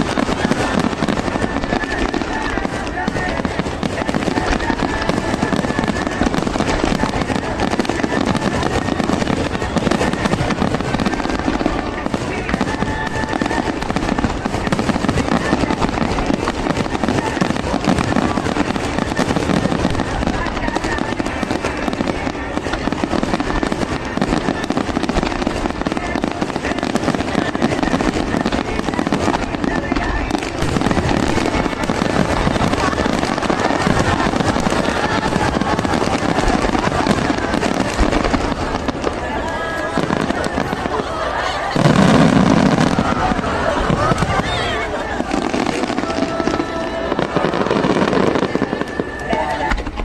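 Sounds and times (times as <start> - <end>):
fireworks crackling: 0.0 - 50.0.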